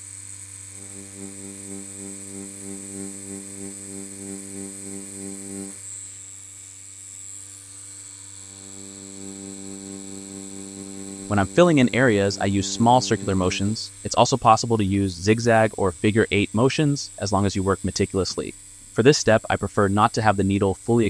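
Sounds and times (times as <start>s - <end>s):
tattoo machine pulsing hum: 0.0s - 21.0s.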